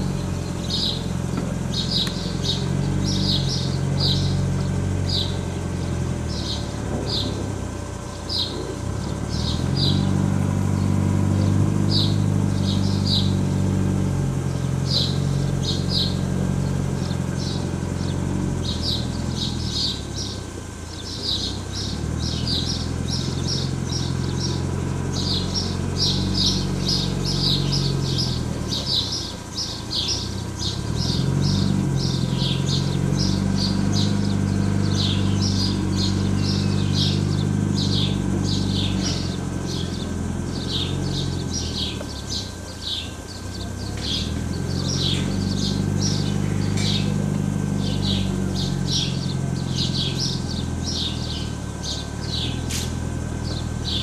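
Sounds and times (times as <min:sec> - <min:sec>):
birds chirping: 0:00.0 - 0:54.0
motor engine running: 0:00.0 - 0:54.0.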